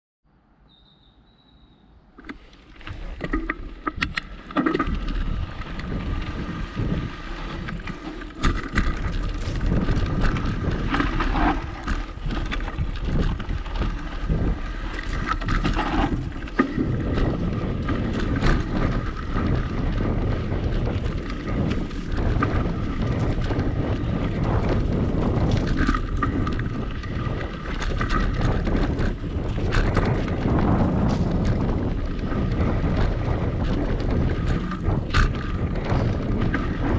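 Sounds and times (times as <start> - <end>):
bike knocking and rattling: 2.1 - 36.9
tyre noise on dirt: 2.2 - 36.9
wind buffeting microphone: 2.8 - 36.9.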